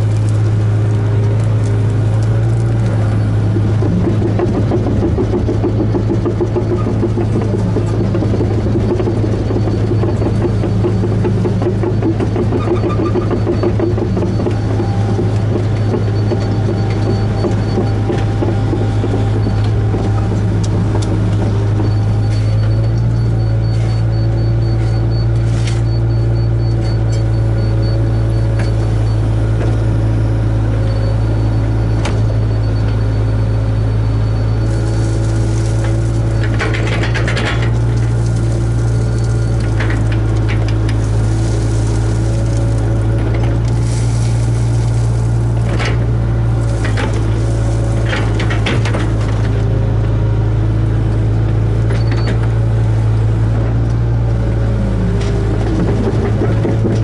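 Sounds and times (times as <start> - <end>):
excavator diesel engine running: 0.0 - 57.0
excavator digging rasps and knocks: 0.0 - 57.0.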